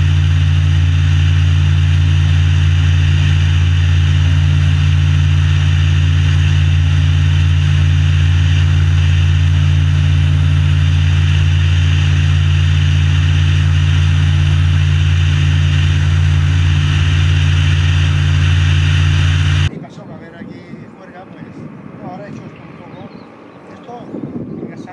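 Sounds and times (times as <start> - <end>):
aircraft engine droning: 0.0 - 24.9.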